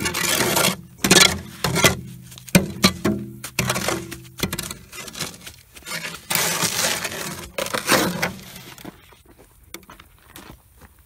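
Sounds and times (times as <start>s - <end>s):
shovel scraping wet concrete: 0.0s - 9.0s.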